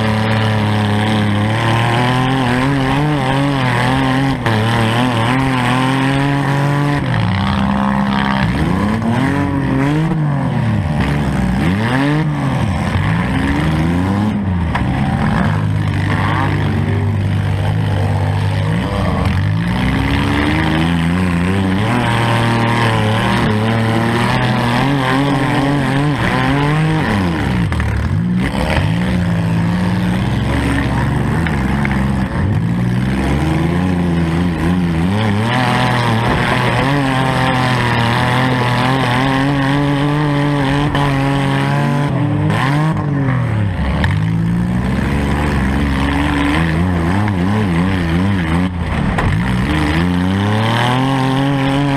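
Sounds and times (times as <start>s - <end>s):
car engine revving hard: 0.0s - 51.9s.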